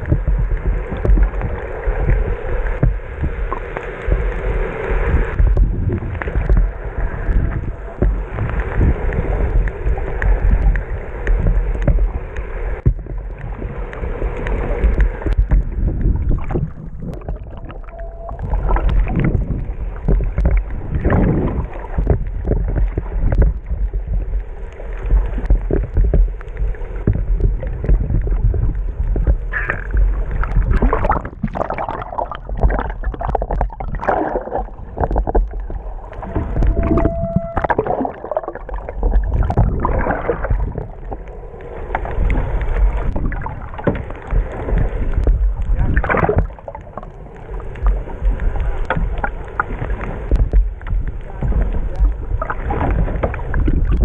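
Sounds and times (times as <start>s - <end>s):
underwater rushing and gurgling: 0.0s - 54.0s.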